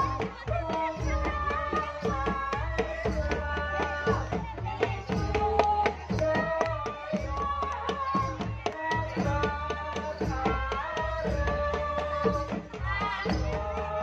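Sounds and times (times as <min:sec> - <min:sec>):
hand drums struck quickly: 0:00.0 - 0:14.0.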